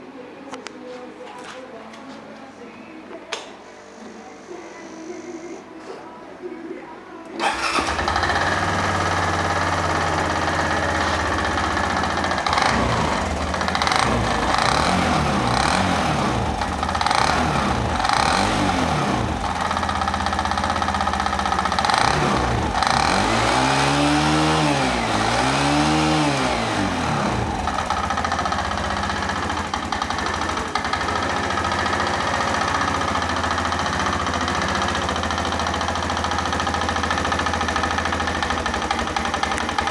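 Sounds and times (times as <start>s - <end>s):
scooter engine idling and revving: 7.4s - 39.9s.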